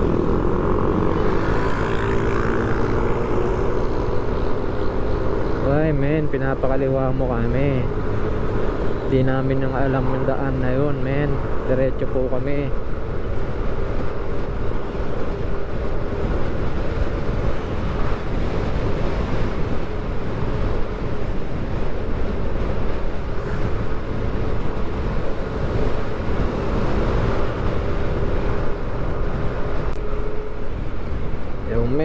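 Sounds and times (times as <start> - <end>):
motorcycle engine drone: 0.0 - 32.0
wind rushing over microphone: 0.0 - 32.0.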